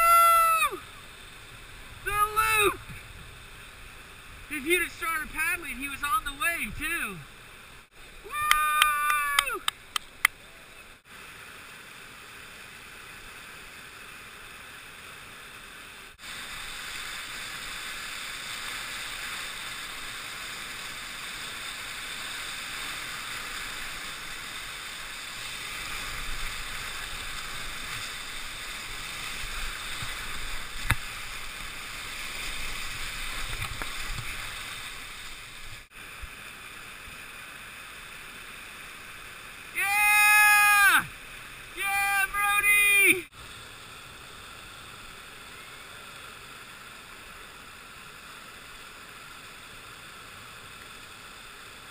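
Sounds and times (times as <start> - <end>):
rushing whitewater: 0.0 - 51.9.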